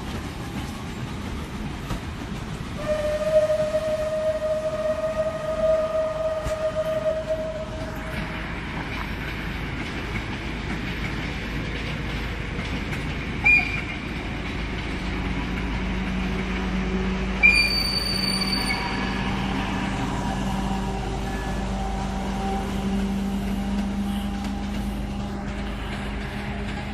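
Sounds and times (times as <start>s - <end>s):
train wheels on rails: 0.0s - 26.9s.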